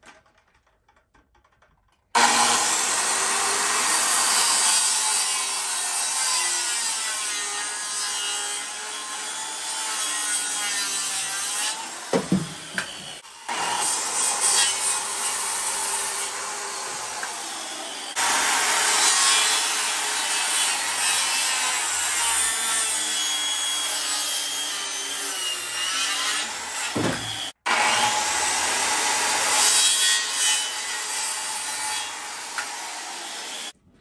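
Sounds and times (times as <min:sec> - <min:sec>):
power tool working wood: 0:02.2 - 0:33.7.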